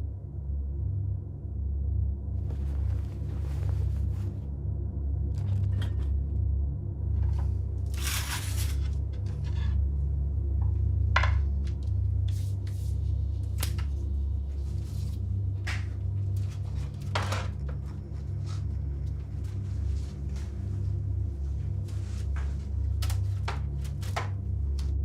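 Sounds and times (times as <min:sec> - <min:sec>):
steady low drone: 0:00.0 - 0:25.0.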